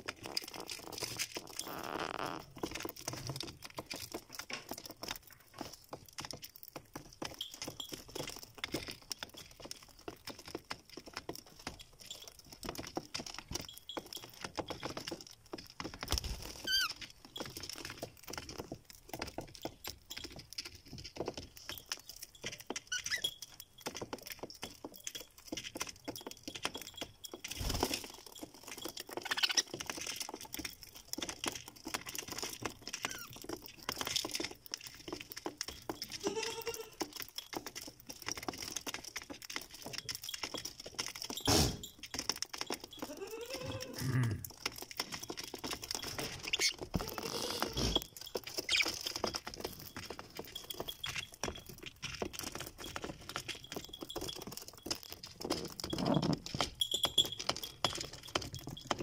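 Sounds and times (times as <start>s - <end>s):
birds pecking seed: 0.0s - 59.0s.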